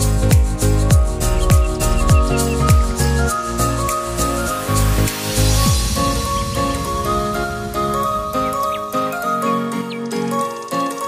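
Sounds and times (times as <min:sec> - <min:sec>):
electronic synth music: 0:00.0 - 0:11.0.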